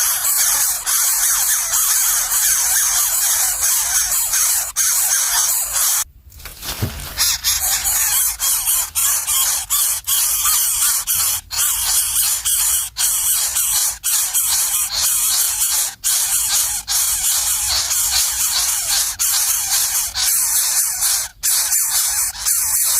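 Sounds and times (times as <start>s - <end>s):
nestlings begging calls: 0.0s - 6.0s, 7.1s - 22.9s.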